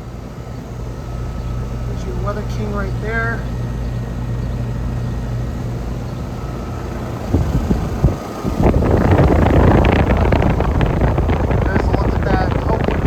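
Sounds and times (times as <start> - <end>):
air conditioner compressor hum: 0.0 - 13.0
wind buffeting microphone: 0.8 - 13.0.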